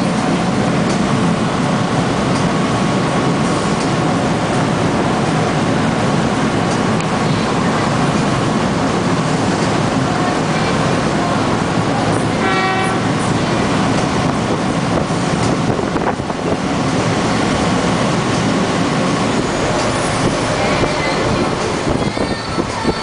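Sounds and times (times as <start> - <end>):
boat engine rumble: 0.0 - 23.0
water and wind noise: 0.0 - 23.0.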